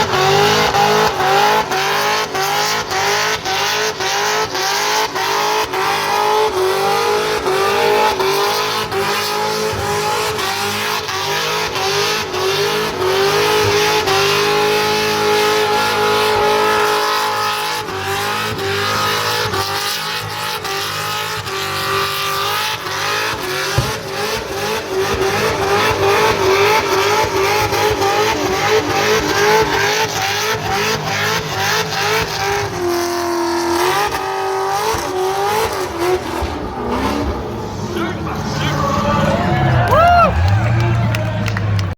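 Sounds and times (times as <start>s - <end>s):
truck engine revving high: 0.0s - 41.9s.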